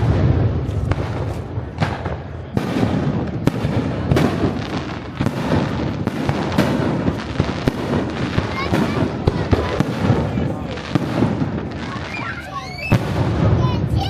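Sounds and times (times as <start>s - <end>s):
fireworks barrage crackling: 0.0s - 14.0s
loud firework bangs: 0.0s - 14.0s.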